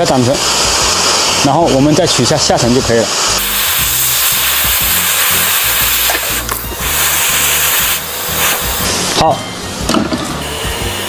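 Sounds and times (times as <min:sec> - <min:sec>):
background music with bass: 0:00.0 - 0:11.0
hot air station hissing: 0:00.0 - 0:11.0.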